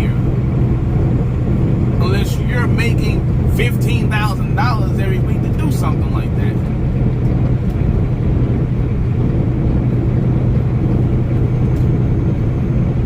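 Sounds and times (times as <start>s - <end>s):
constant low hum: 0.0s - 13.0s
road noise: 0.0s - 13.0s
truck engine drone: 0.0s - 13.0s.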